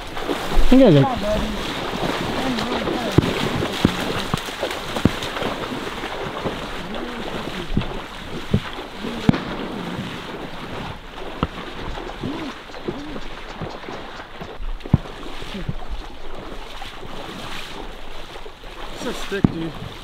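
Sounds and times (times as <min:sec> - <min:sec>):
wind on microphone: 0:00.0 - 0:18.3
wading through splashing water: 0:00.0 - 0:20.0.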